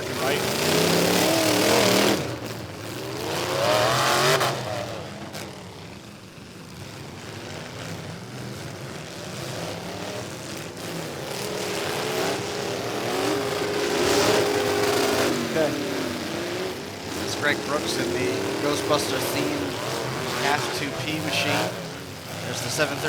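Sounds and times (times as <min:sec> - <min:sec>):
truck engines revving hard: 0:00.0 - 0:23.0.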